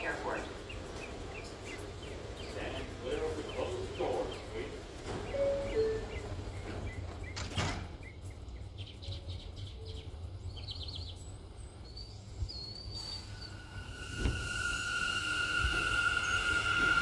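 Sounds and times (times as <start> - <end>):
small birds chirping: 0.0 - 14.1
train wheels whining on rails: 0.0 - 17.0.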